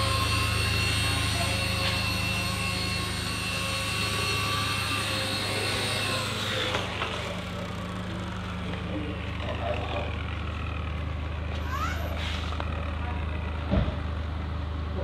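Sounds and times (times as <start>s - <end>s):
small motor high whine: 0.0s - 15.0s.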